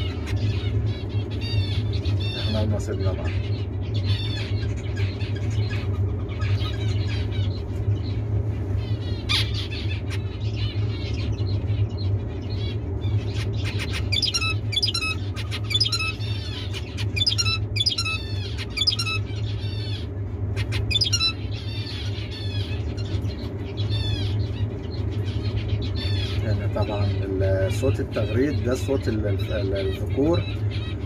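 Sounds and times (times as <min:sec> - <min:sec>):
finch singing chirping notes: 0:00.0 - 0:31.0
steady low hum: 0:00.0 - 0:31.0.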